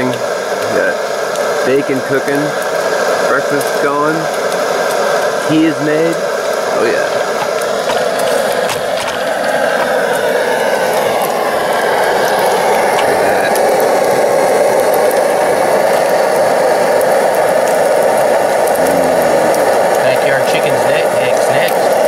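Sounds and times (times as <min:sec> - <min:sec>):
bacon sizzling pops: 0:00.0 - 0:22.0
camp stove burning with rushing noise: 0:00.0 - 0:22.0.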